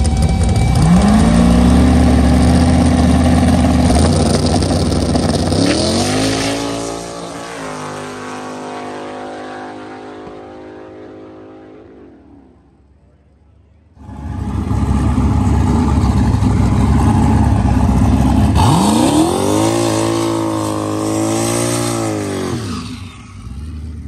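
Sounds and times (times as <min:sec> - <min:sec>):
race car engine accelerating: 0:00.0 - 0:12.9, 0:14.0 - 0:24.0.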